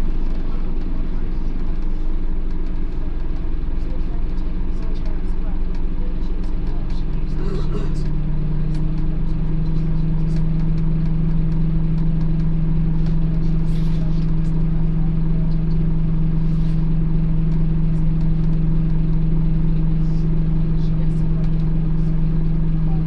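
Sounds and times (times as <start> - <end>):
bus engine low hum: 0.0 - 23.0.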